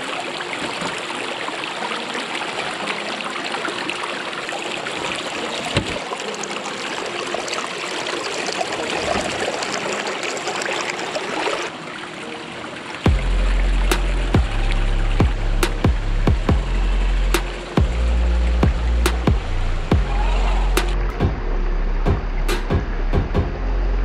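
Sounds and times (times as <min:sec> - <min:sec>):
creek water rushing over stones: 0:00.0 - 0:22.7.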